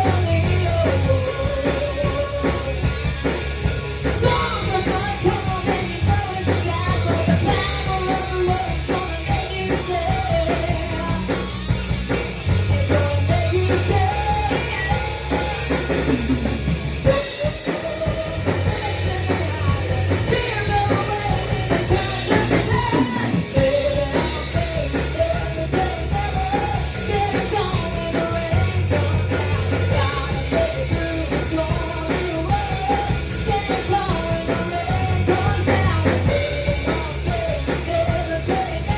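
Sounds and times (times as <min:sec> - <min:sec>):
person singing: 0:00.0 - 0:03.3, 0:04.1 - 0:11.6, 0:12.6 - 0:16.4, 0:17.0 - 0:38.9
drum kit: 0:00.0 - 0:38.9
low bass notes: 0:00.0 - 0:38.9.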